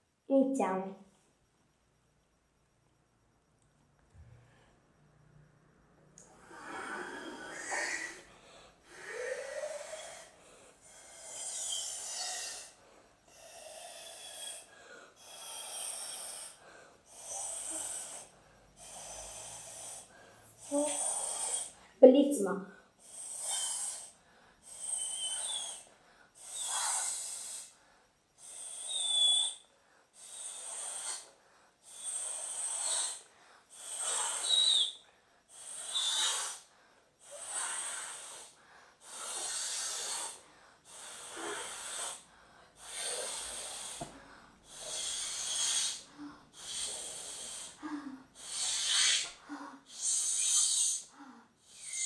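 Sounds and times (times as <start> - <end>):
breath blown through a straw: 6.2 - 21.8, 23.0 - 27.8, 28.4 - 52.0.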